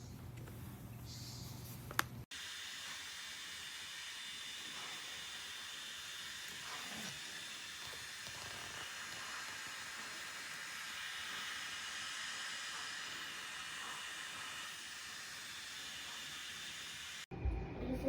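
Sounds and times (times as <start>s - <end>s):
hair dryer running: 2.3s - 17.3s.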